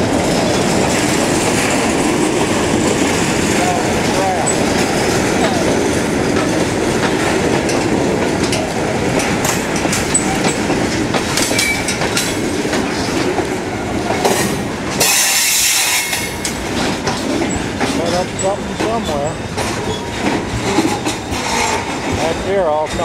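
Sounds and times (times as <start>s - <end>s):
freight cars rumbling: 0.0s - 23.0s
wheels clacking over rail joints: 0.0s - 23.0s.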